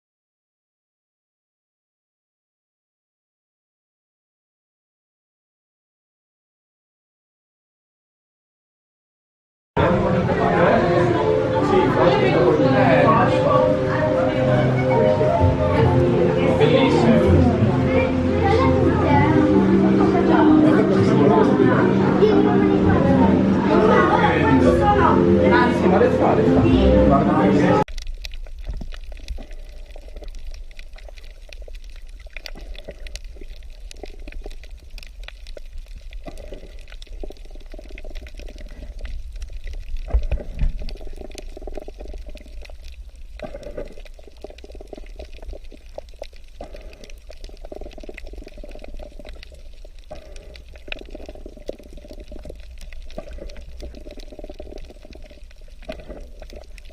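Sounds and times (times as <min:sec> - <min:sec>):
underwater gurgling water: 0:09.8 - 0:56.9.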